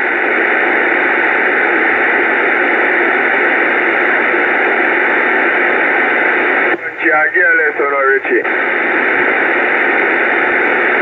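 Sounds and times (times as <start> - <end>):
two-way radio static hiss: 0.0 - 11.0.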